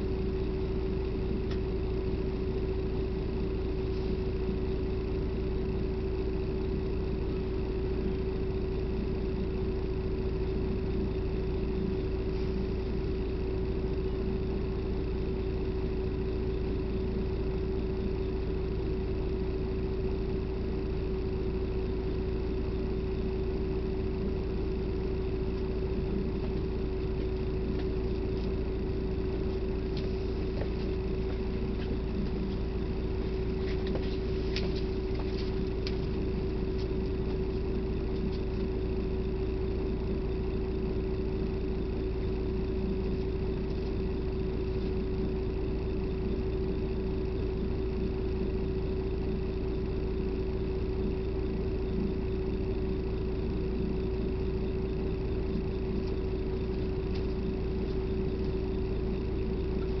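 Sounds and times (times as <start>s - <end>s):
constant hum: 0.0s - 60.0s
vehicle engine and road rumble: 0.0s - 60.0s.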